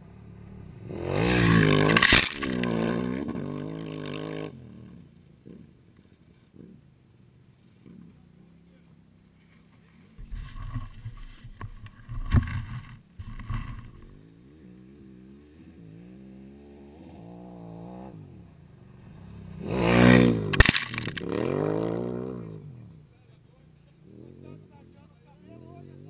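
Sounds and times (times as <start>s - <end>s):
motorcycle engines revving: 0.0s - 26.0s
motorcycle passing by: 0.0s - 26.0s.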